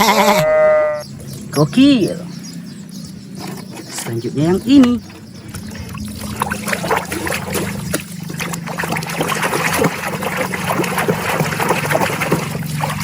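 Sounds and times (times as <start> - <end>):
water trickling and splashing: 1.1 - 13.0.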